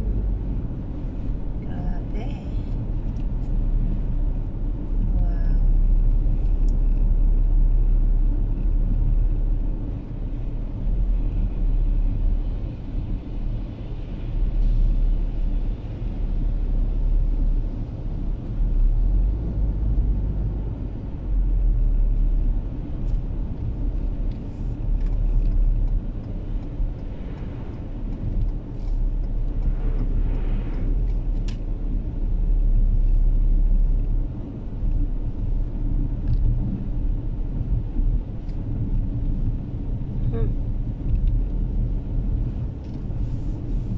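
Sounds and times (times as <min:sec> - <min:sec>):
car driving on snowy road: 0:00.0 - 0:43.9.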